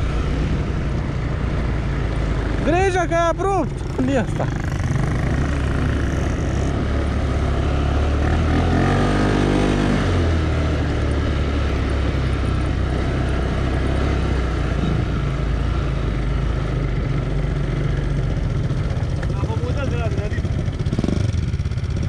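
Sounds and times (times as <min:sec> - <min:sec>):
atv engine running: 0:00.0 - 0:22.0
wind and track noise: 0:00.0 - 0:22.0.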